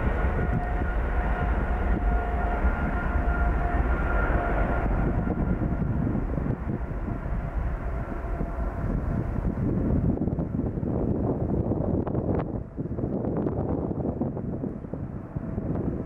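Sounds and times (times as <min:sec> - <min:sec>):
faint whining tone: 0:00.0 - 0:16.0
jet engine rumble: 0:00.0 - 0:16.0.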